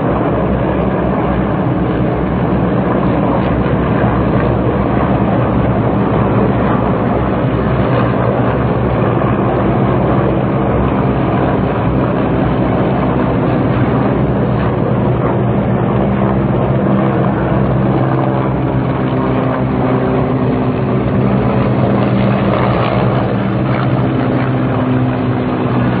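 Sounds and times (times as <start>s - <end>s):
helicopters flying overhead: 0.0s - 26.0s.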